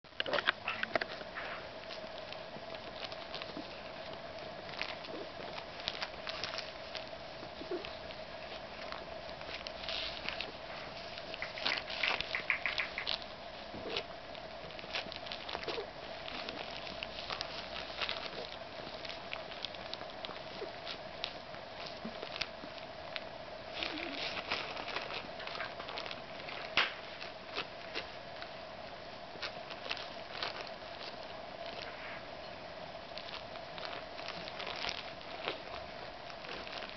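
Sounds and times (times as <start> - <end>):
plastic bag crinkling: 0.1 - 36.9.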